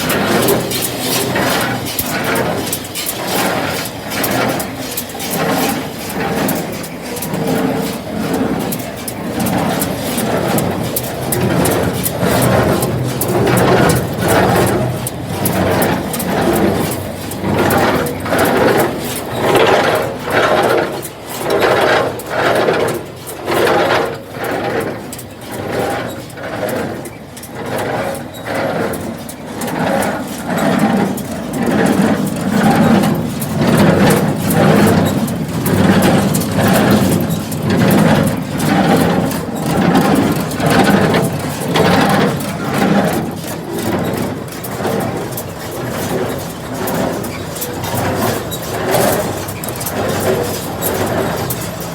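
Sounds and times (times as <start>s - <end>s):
engine hum: 0.0s - 51.9s.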